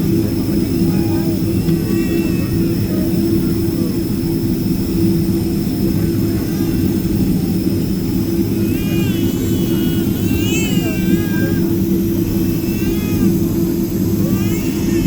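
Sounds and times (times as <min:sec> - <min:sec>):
faint background voices: 0:00.0 - 0:14.8
jet engine drone in cabin: 0:00.0 - 0:15.0.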